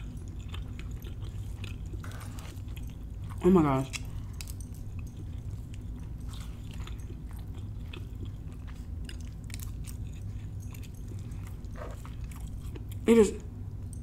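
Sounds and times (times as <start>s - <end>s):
close-miked chewing: 0.0s - 14.0s
low steady hum: 0.0s - 14.0s.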